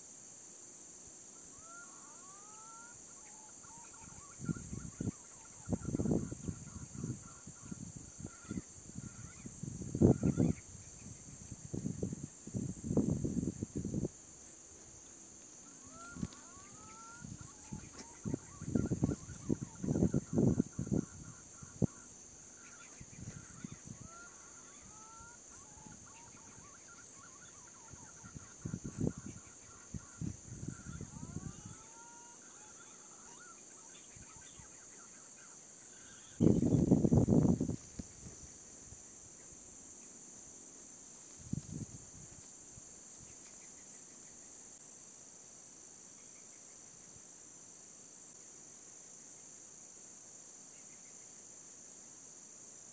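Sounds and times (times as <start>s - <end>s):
high insect drone: 0.0s - 52.9s.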